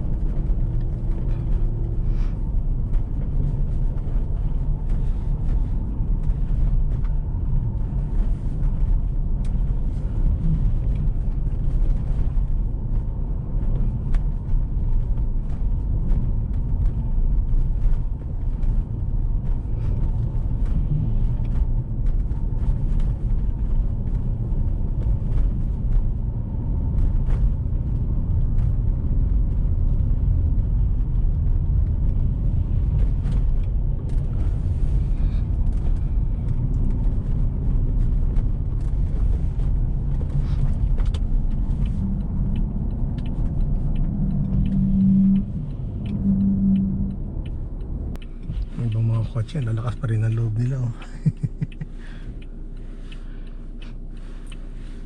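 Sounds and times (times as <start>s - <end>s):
car driving over snow: 0.0s - 55.0s.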